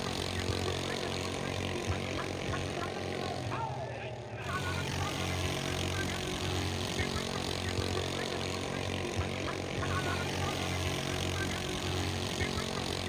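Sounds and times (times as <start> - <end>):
large engine running: 0.0 - 13.0.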